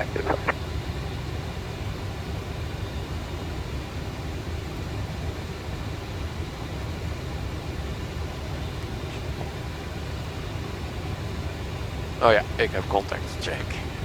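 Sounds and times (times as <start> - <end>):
airplane cockpit rumble and hiss: 0.0 - 14.0.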